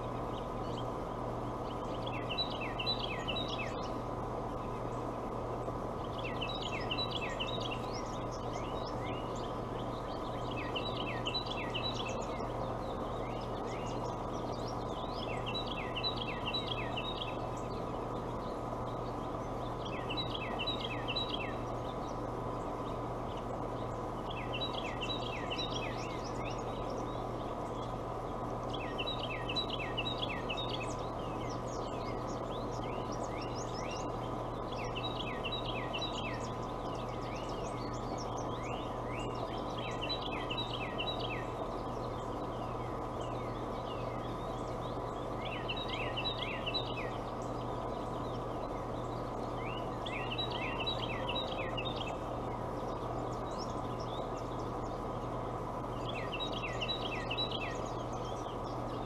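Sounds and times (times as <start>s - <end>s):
steady hum and hiss: 0.0s - 59.0s.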